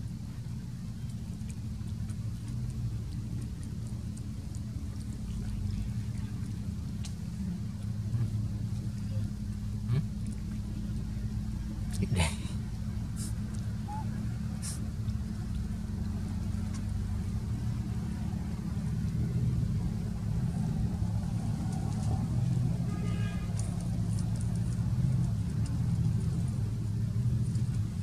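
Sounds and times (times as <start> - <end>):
truck engine rumbling: 0.0 - 28.0.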